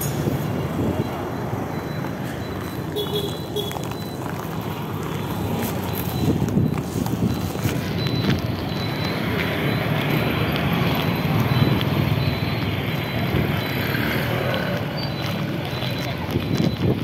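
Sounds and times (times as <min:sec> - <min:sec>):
motorcycles passing on road: 0:00.0 - 0:17.0.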